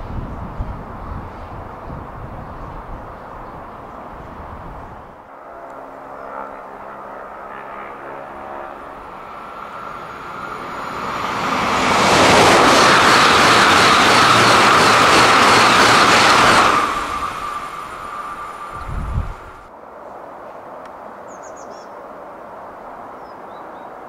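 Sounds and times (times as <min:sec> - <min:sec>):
high-speed train rushing past: 0:00.0 - 0:19.7.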